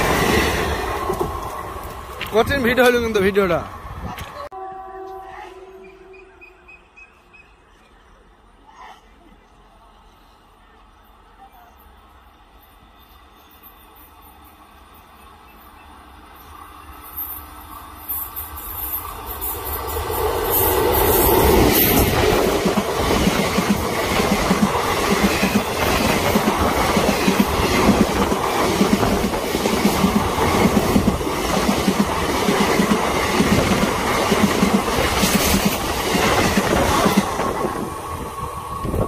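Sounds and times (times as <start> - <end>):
passenger train passing: 0.0 - 39.0.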